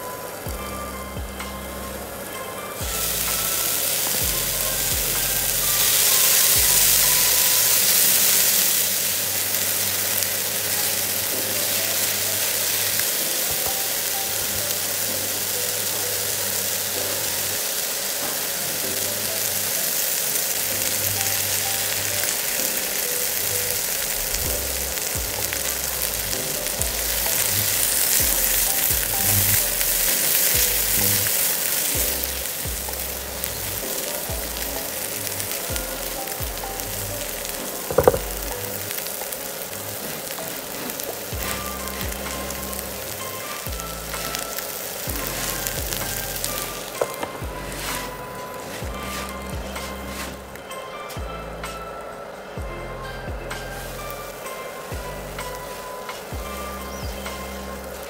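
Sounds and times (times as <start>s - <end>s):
corn sizzling in a pan: 0.0s - 58.0s.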